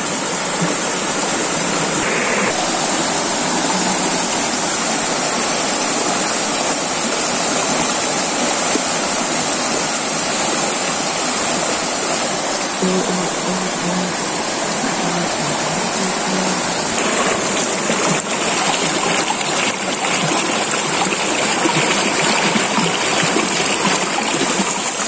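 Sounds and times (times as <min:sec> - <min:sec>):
water rushing over boulders: 0:00.0 - 0:25.0.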